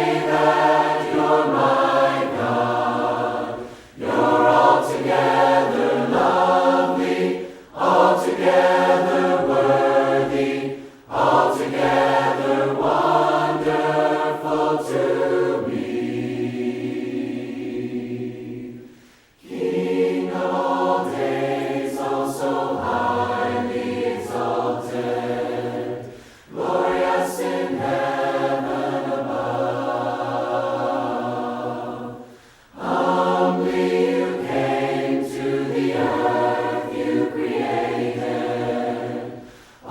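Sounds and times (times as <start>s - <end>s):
group singing a cappella hymn: 0.0s - 39.9s.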